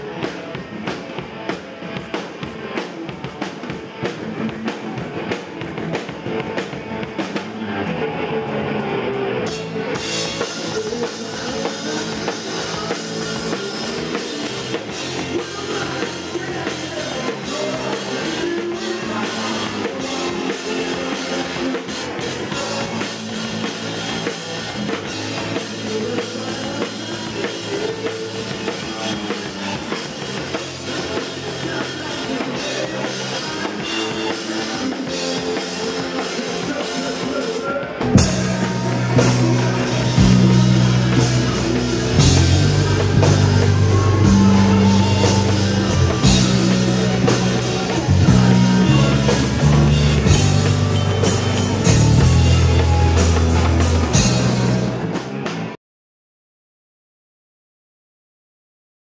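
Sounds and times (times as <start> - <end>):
distorted electric guitars: 0.0 - 55.8
drum kit: 0.0 - 55.8
rock band playing: 0.0 - 55.8.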